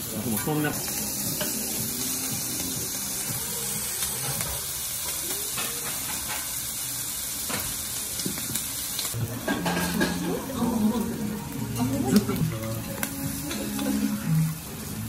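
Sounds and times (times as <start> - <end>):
abalone sizzling on a griddle: 0.0 - 15.0.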